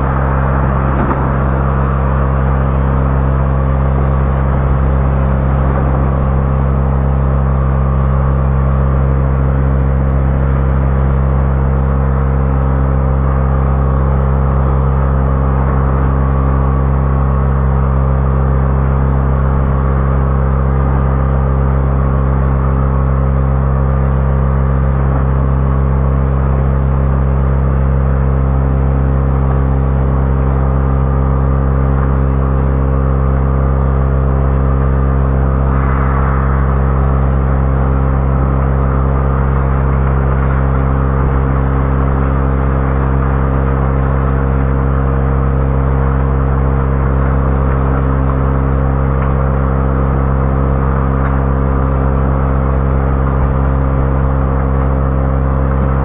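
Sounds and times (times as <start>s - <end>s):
loud mechanical drone: 0.0s - 56.0s.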